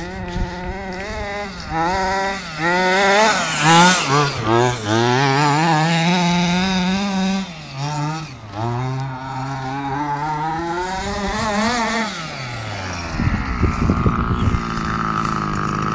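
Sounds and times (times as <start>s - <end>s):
model car engine revving: 0.0s - 15.9s.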